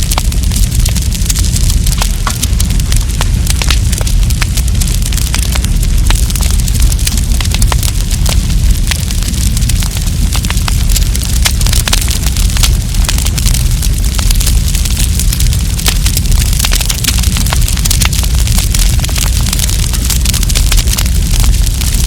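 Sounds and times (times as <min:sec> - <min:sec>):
campfire popping and snapping: 0:00.0 - 0:22.0
deep rumble of fire: 0:00.0 - 0:22.0.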